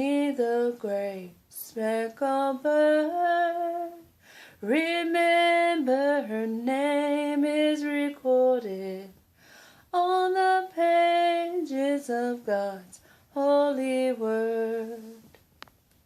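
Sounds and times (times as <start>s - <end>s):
woman singing a hymn: 0.0s - 9.2s, 9.9s - 15.3s.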